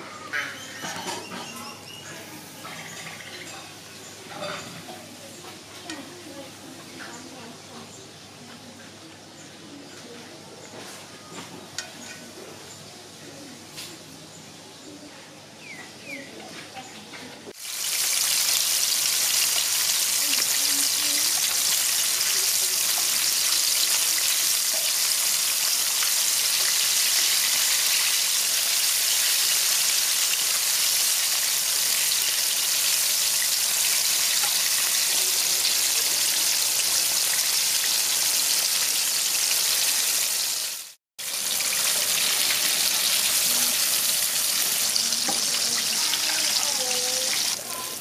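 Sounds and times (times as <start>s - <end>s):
chicken deep-frying in oil: 0.3s - 8.2s, 17.5s - 48.0s.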